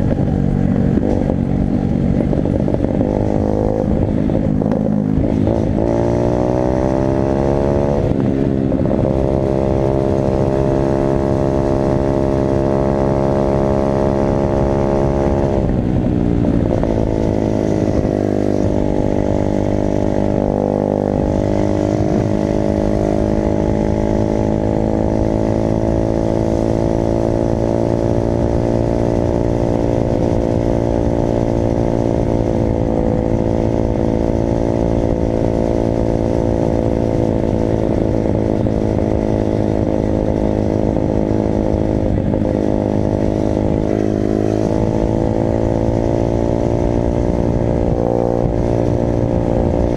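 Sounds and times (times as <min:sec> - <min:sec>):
dirt bike engine running hard: 0:00.0 - 0:49.9.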